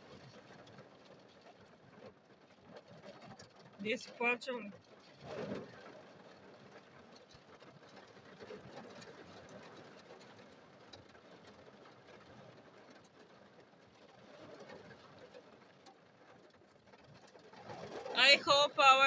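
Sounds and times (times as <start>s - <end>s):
heavy rain on a car: 0.0s - 19.0s.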